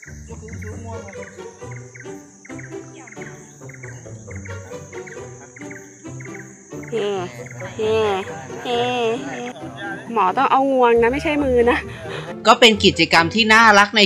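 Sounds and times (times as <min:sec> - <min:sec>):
high-pitched insect hum: 0:00.0 - 0:11.6
music with chirping notes: 0:00.0 - 0:14.0.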